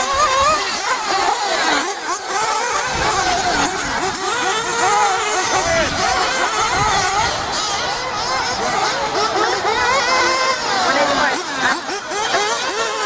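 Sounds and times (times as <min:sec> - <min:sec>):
rc buggy engines whining: 0:00.0 - 0:13.0.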